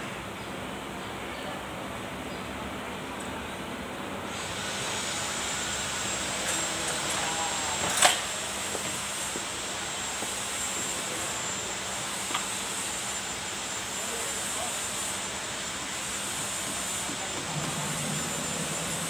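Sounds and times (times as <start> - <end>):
steady running noise: 3.6 - 19.0.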